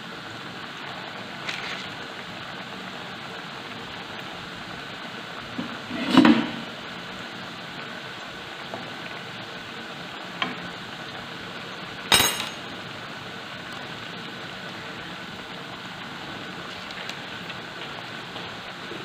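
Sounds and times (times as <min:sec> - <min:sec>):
dough sizzling in hot oil: 0:00.0 - 0:19.0.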